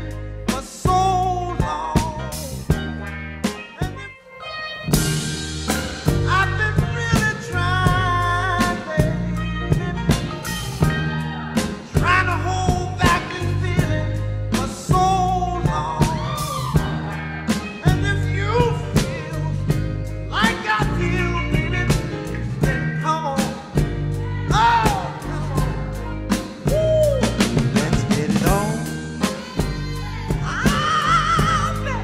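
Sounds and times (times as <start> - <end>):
deep bass line: 0.0 - 4.1, 4.9 - 32.0.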